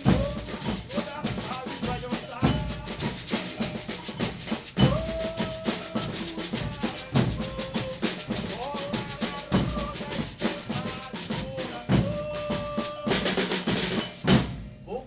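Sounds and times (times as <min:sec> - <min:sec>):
percussion ensemble drumming: 0:00.0 - 0:15.0.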